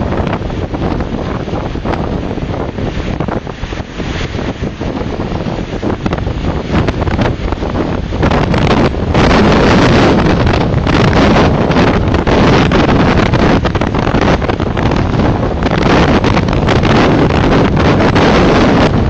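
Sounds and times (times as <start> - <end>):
waves breaking against quay: 0.0 - 19.0
wind buffeting microphone: 0.0 - 19.0.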